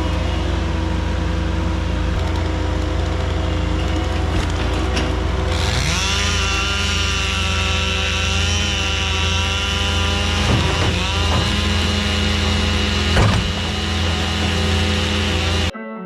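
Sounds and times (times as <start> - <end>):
chainsaw revving: 0.0 - 15.7
machine engine droning: 0.0 - 15.7.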